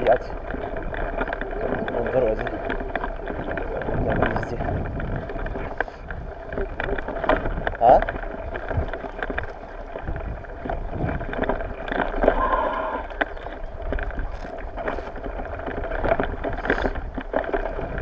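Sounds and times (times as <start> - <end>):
bicycle frame and bags rattling: 0.0 - 18.0
bicycle rolling over bumpy grass: 0.0 - 18.0.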